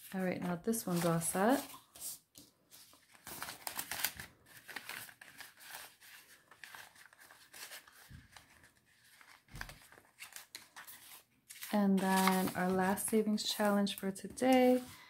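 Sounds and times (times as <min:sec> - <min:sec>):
banknotes and plastic rustling: 0:00.0 - 0:15.0.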